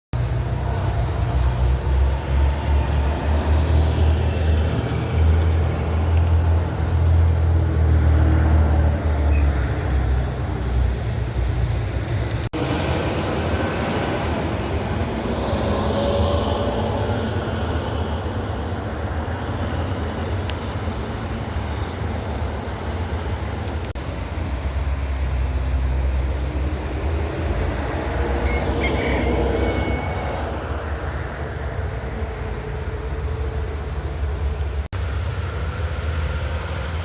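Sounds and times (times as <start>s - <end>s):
diesel truck engines rumbling: 0.2s - 37.0s
passing traffic: 0.2s - 37.0s.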